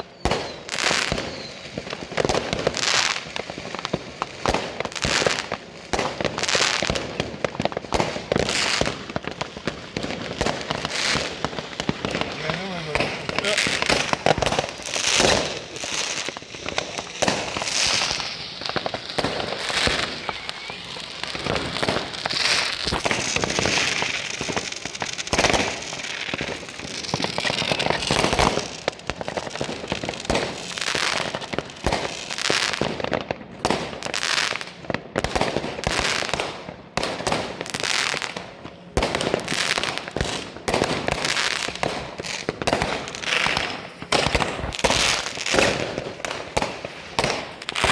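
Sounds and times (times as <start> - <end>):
crackling: 0.0 - 47.9
fireworks and firecrackers banging: 0.0 - 47.9.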